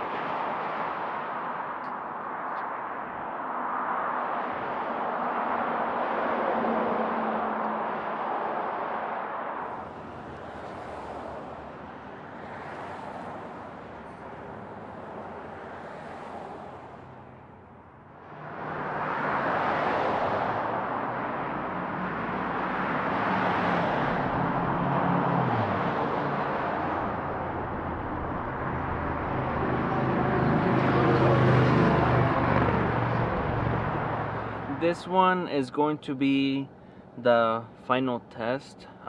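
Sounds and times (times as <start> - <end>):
road traffic rushing: 0.0 - 39.0.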